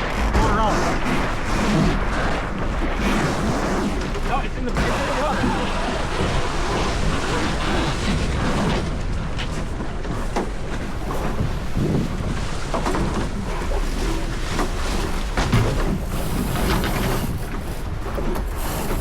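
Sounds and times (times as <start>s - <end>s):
boat gear knocks and rustles: 0.0s - 19.0s
water rushing along hull: 0.0s - 19.0s
wind buffeting microphone: 0.0s - 19.0s.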